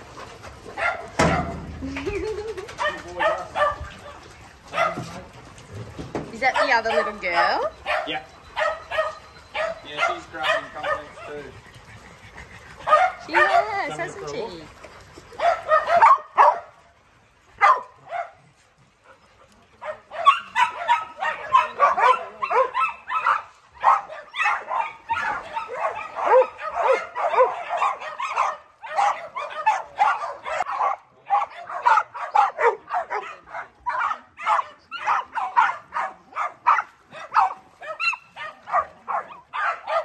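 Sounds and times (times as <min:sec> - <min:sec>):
dogs barking: 0:00.0 - 0:05.4, 0:06.3 - 0:16.9, 0:17.6 - 0:40.0.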